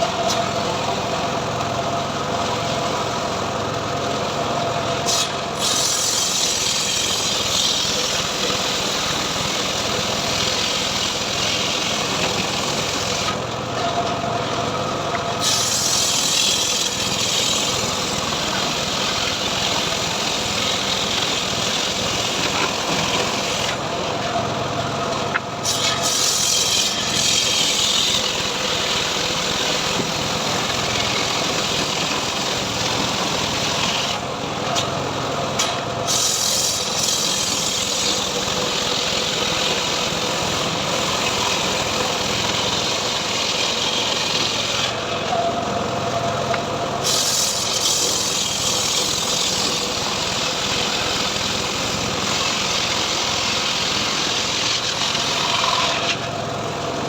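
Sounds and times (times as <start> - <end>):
saw cutting through wood: 0.0 - 57.0
sawmill engine running: 0.0 - 57.0.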